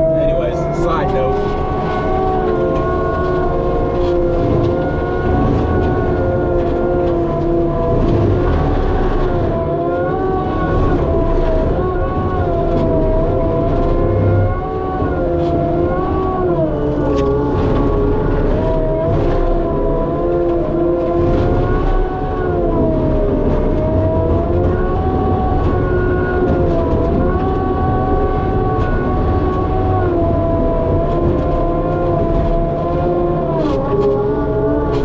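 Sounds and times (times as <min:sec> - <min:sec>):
engine and hydraulic whine: 0:00.0 - 0:35.0.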